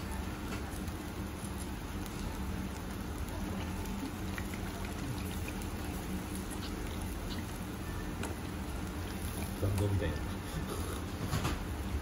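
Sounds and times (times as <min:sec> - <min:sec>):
low steady hum: 0:00.0 - 0:12.0
noodles sizzling on griddle: 0:00.0 - 0:12.0.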